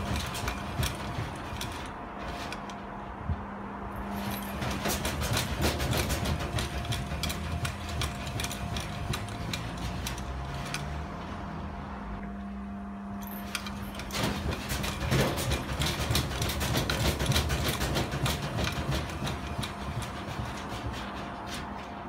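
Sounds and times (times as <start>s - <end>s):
machine knocking and rattling: 0.0s - 11.5s, 13.2s - 22.0s
washing machine motor humming: 0.0s - 22.0s.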